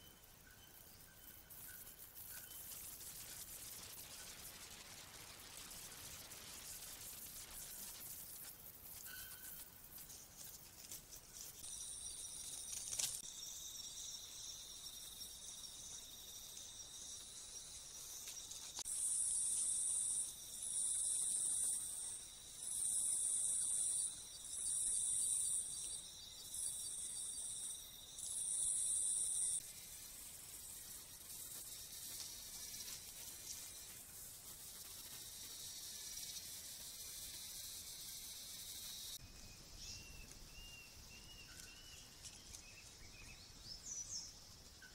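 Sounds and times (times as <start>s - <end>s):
faint steady hiss: 0.0s - 44.9s
insect high-pitched trill: 0.0s - 44.9s
insect buzzing pulses: 0.8s - 39.2s.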